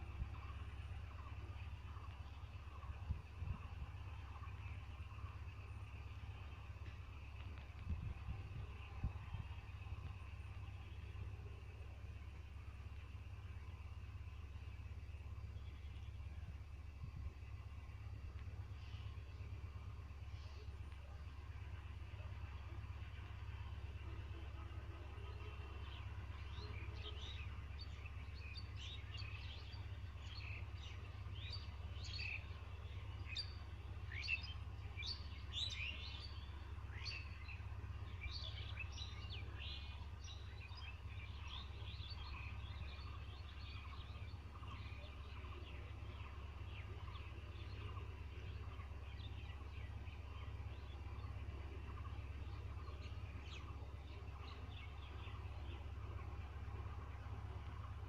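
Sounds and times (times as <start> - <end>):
birds chirping: 0.0 - 58.0
steady low hum: 0.0 - 58.0.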